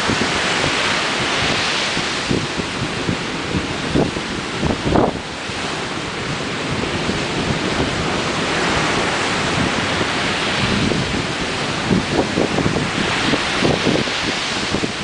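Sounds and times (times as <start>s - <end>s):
waves breaking on shore: 0.0s - 15.0s
wind buffeting microphone: 0.0s - 15.0s.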